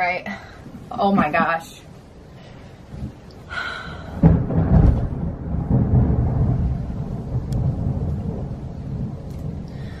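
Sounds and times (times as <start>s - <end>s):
thunder rumbling: 0.7s - 10.0s.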